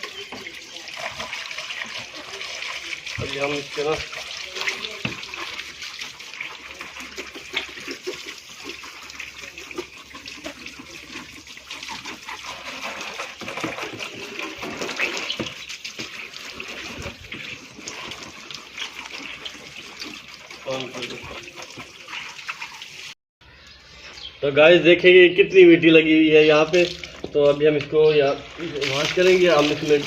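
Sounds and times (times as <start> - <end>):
hose water spraying on car: 0.0 - 23.2, 28.2 - 30.0.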